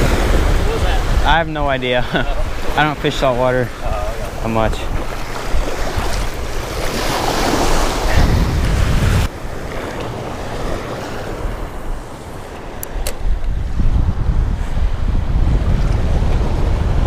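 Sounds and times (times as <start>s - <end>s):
small waves washing: 0.0s - 13.7s
wind buffeting the microphone: 0.0s - 17.0s.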